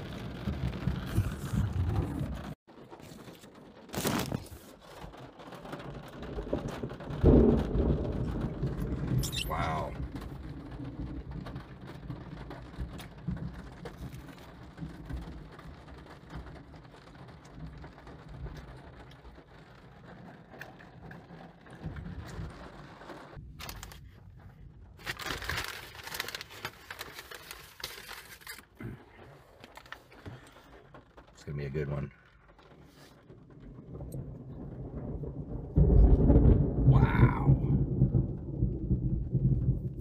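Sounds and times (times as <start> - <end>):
thunder rumbling: 0.0 - 27.0, 28.8 - 40.0
rain on a car roof: 0.0 - 40.0.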